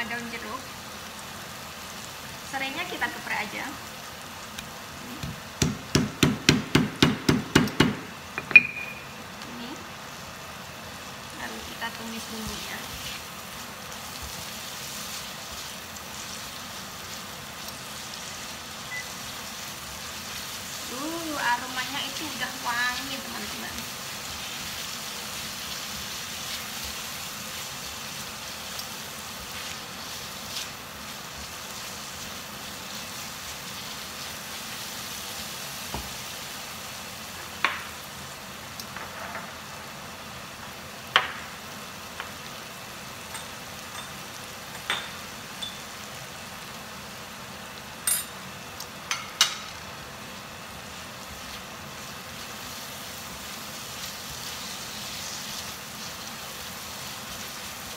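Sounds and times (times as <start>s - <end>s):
spice paste sizzling in wok: 0.0s - 57.9s.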